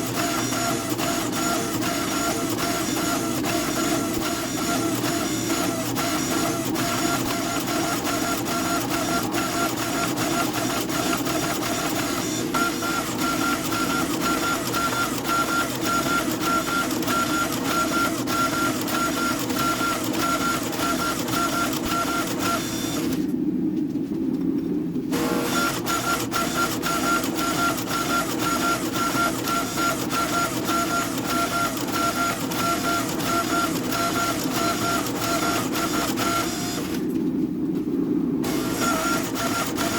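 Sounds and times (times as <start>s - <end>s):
workshop machine pulsing tone: 0.0s - 23.3s, 25.1s - 37.1s, 38.4s - 39.9s.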